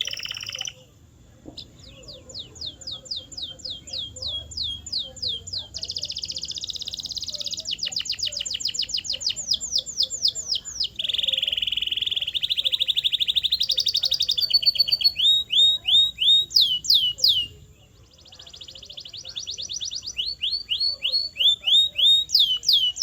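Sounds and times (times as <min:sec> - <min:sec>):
canary singing trills: 0:00.0 - 0:23.0.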